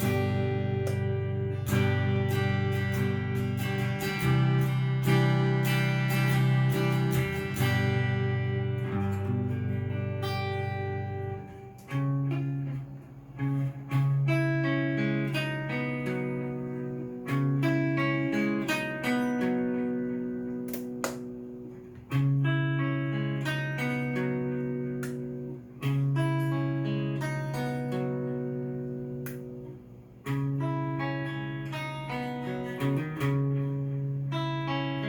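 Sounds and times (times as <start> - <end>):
clean electric guitar: 0.0 - 35.0.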